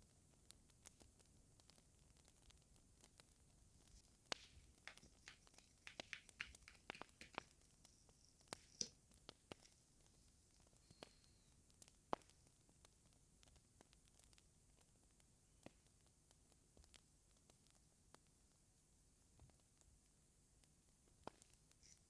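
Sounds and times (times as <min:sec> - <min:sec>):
wood fire crackling: 0:00.0 - 0:18.6.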